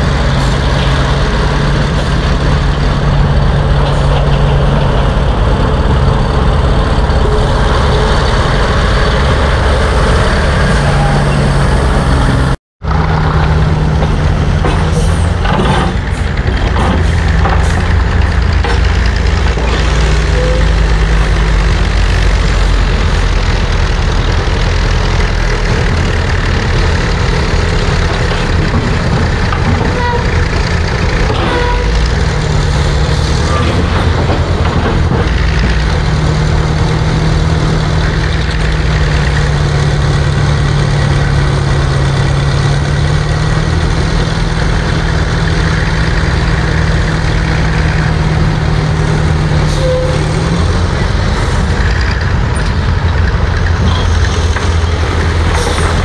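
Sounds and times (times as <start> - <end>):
power shovel engine running: 0.0 - 56.0.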